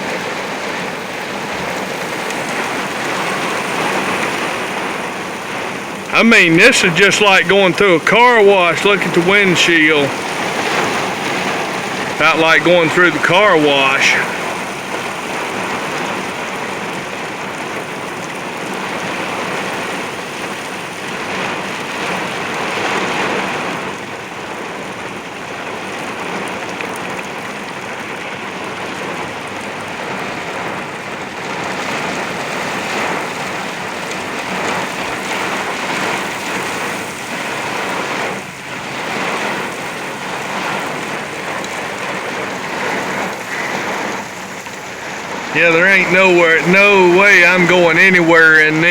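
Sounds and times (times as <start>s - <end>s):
heavy rain pounding on car: 0.0s - 48.9s.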